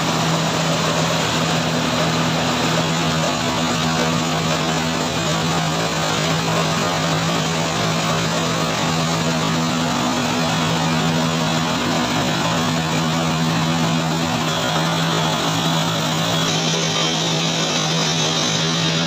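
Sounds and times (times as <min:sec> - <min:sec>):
milling machine humming: 0:00.0 - 0:19.0
rice grains rushing down a chute: 0:00.0 - 0:19.0.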